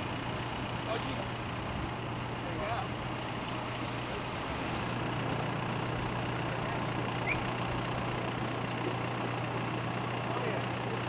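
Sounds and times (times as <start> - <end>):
minibus engine idling: 0.0 - 11.0.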